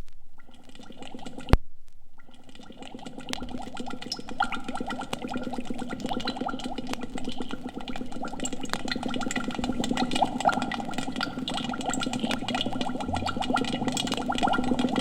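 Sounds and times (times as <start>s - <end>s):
thick liquid bubbling: 0.3s - 15.0s.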